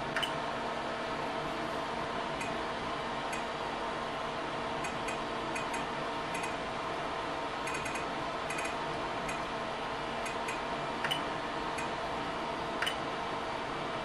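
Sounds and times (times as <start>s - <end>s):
electrical fan hum: 0.0s - 14.0s.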